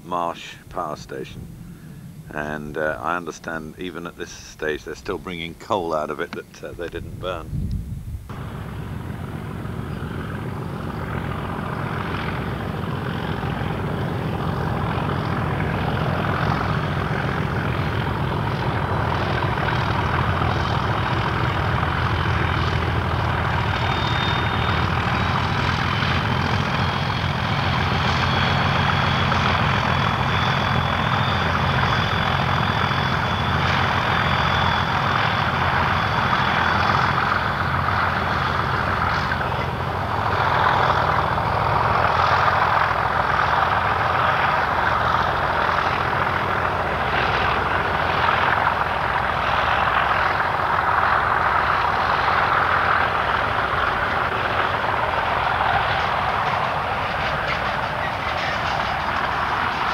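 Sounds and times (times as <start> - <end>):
diesel locomotive engine: 0.0 - 59.9
thin high whine: 8.3 - 59.9.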